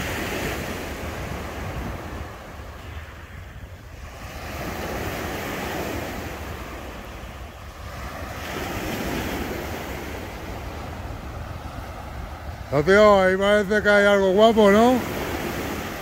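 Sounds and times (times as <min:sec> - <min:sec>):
surf washing onto beach: 0:00.0 - 0:16.0
wind rumble on microphone: 0:00.0 - 0:16.0.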